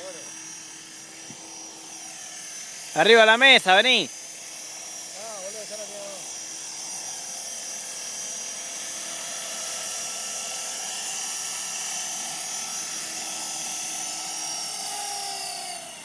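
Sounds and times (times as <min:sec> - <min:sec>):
rc helicopter rotors whining: 0:00.0 - 0:16.0.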